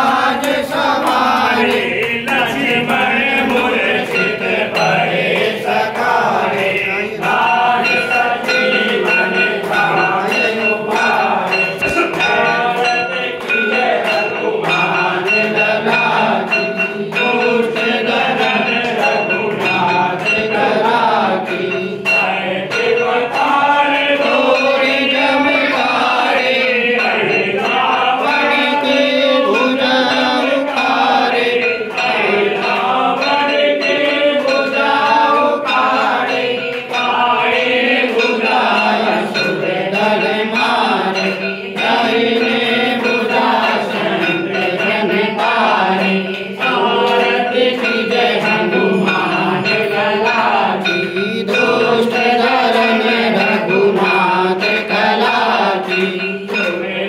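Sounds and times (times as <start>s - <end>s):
group singing a hymn: 0.0s - 57.0s.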